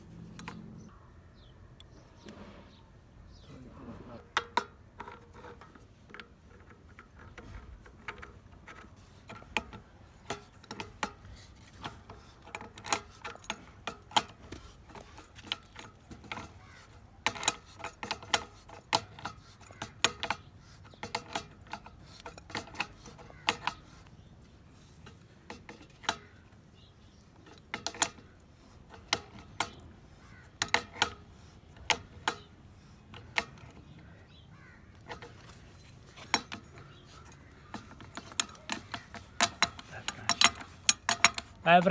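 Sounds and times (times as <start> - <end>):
metallic clicks of plumbing fittings: 4.3 - 24.2, 24.8 - 34.1, 34.9 - 41.9.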